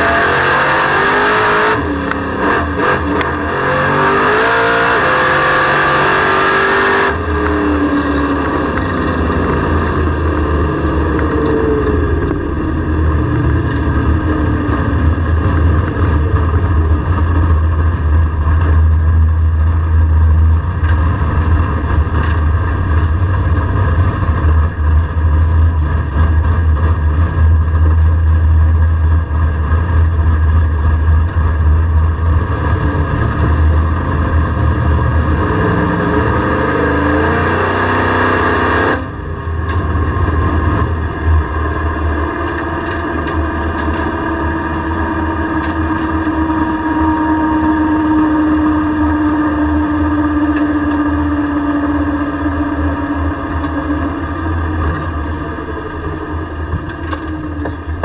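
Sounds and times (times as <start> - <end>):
car engine exhaust rumble: 0.0 - 58.0.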